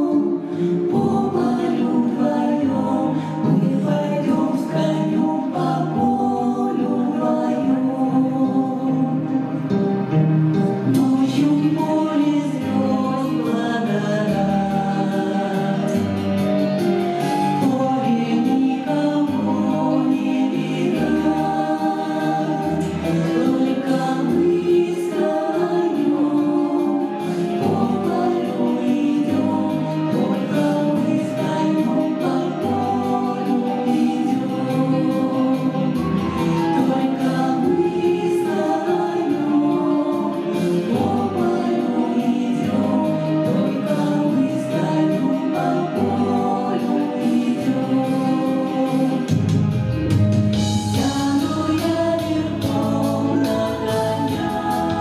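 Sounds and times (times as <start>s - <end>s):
instrumental accompaniment: 0.0s - 55.0s
vocal ensemble singing in harmony: 0.0s - 55.0s.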